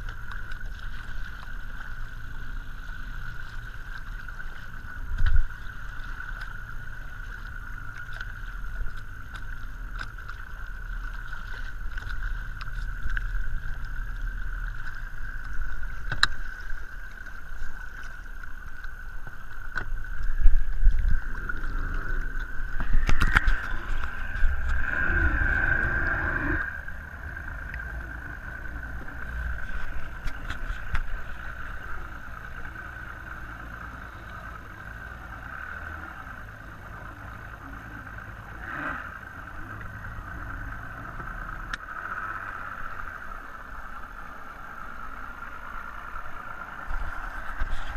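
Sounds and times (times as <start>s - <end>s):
steady whine and low rumble: 0.0s - 47.9s
water lapping against boat hull: 0.0s - 47.9s.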